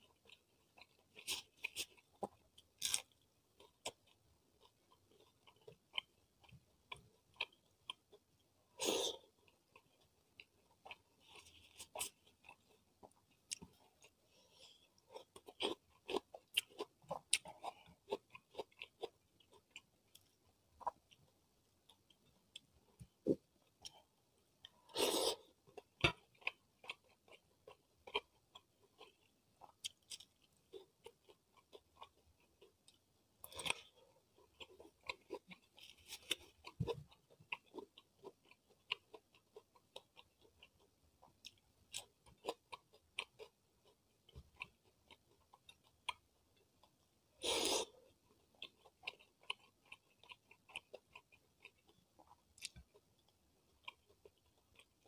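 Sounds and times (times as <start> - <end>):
close chewing and mouth sounds: 0.0 - 55.0.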